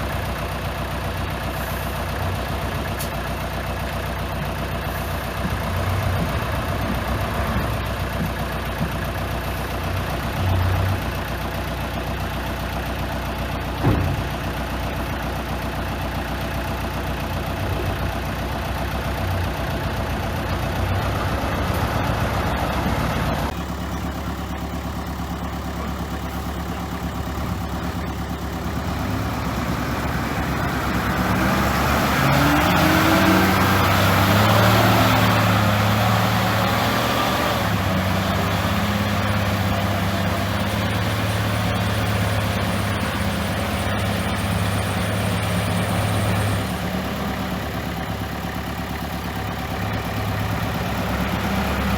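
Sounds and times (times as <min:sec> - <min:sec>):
diesel machinery engine drone: 0:00.0 - 0:51.9.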